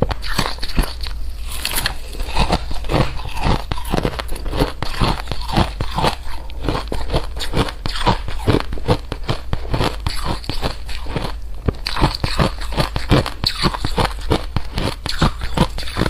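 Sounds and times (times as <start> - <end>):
chewing crunchy food: 0.0 - 16.0.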